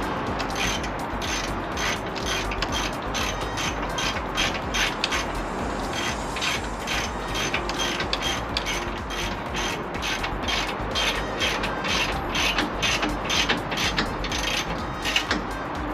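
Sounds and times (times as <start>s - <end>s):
ratchet wrench clicking: 0.0s - 15.9s.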